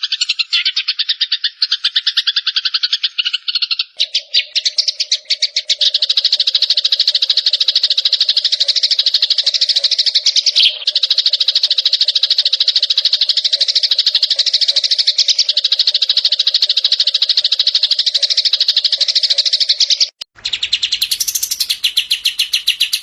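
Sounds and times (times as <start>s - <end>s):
songbird chirping and trilling: 0.0s - 23.0s.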